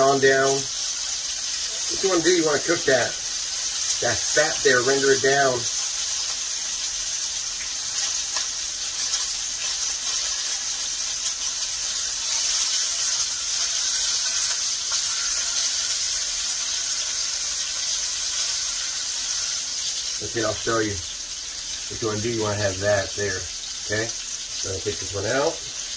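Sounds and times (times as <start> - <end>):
steaks sizzling in a skillet: 0.0 - 25.9.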